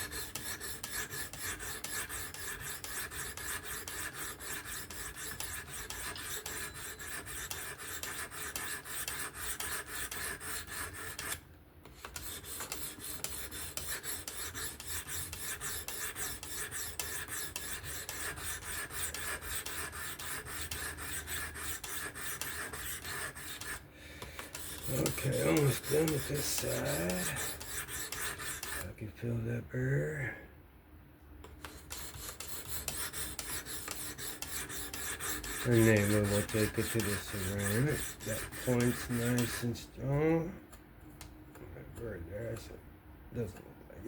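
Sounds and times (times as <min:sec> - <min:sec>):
sharpener rasping on knife blade: 0:00.0 - 0:23.8, 0:24.4 - 0:28.9, 0:31.6 - 0:39.7.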